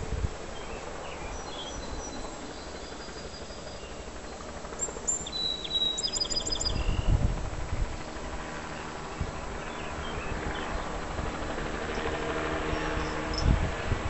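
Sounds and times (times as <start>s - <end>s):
small birds chirping faintly: 0.3s - 13.6s.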